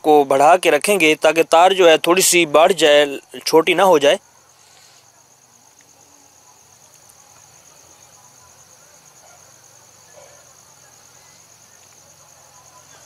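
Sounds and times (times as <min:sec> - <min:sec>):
cricket chirring: 0:00.0 - 0:13.0.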